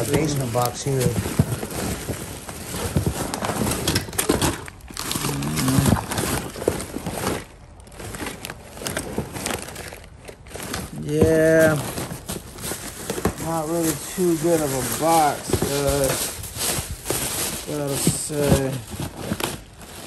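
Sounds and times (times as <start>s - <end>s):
plastic bags rustling and crinkling: 0.0s - 20.0s.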